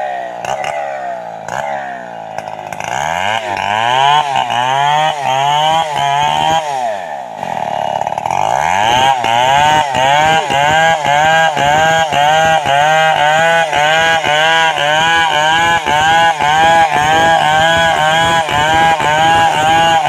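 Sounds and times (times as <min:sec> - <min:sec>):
chainsaw cutting log: 0:00.0 - 0:20.0.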